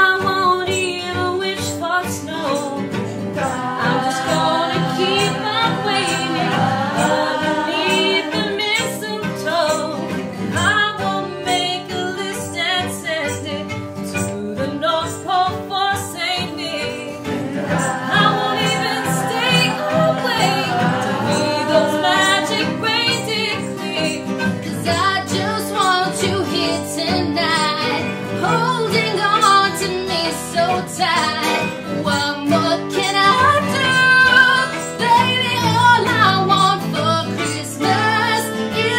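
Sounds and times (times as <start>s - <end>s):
acoustic guitar: 0.0s - 38.9s
fiddle: 0.0s - 38.9s
group of people singing: 2.3s - 12.4s, 16.4s - 38.9s.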